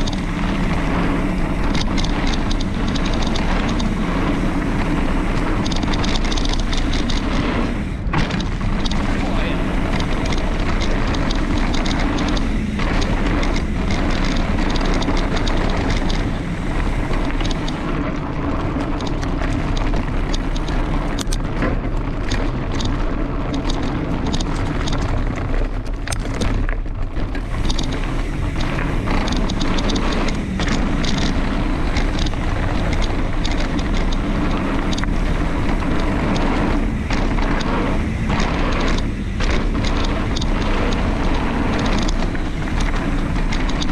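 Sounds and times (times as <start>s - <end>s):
bike knocking on rough trail: 0.0s - 43.9s
bike rattling: 0.0s - 43.9s
wind rushing over microphone: 0.0s - 43.9s.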